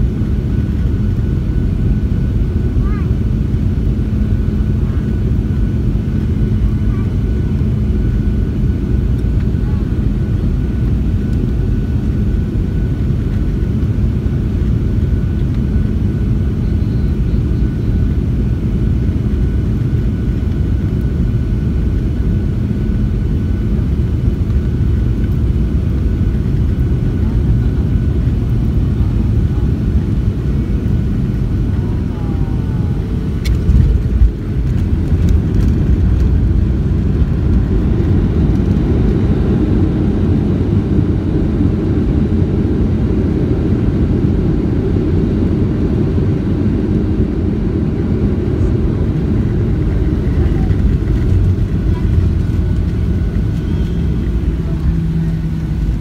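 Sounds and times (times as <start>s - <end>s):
jet engines and wheels rumbling: 0.0s - 56.0s.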